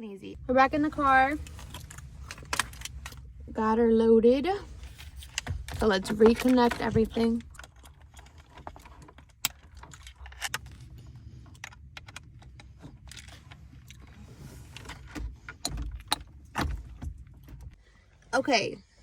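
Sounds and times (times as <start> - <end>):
low rumble: 0.2 - 18.0.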